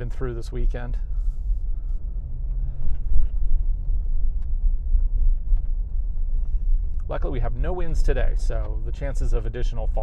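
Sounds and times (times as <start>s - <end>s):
car cabin engine and tyre rumble: 0.0s - 10.0s.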